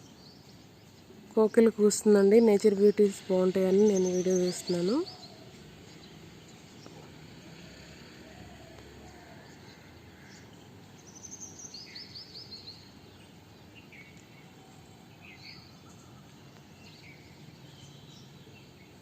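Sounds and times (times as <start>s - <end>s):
outdoor hiss: 0.0s - 19.0s
small birds chirping: 0.0s - 19.0s.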